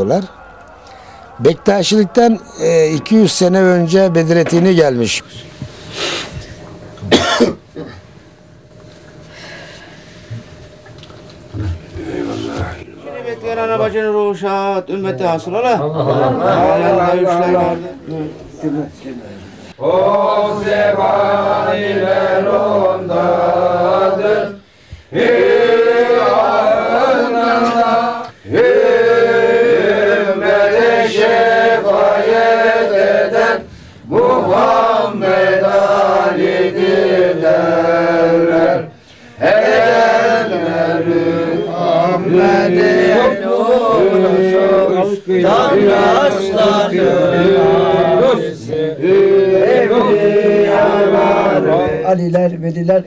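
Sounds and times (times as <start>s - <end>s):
men chanting a hymn: 0.0s - 5.7s, 11.5s - 52.6s.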